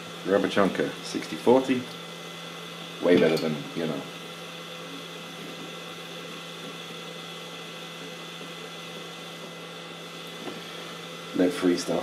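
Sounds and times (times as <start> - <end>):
hot-air gun fan whirring: 0.0 - 12.0.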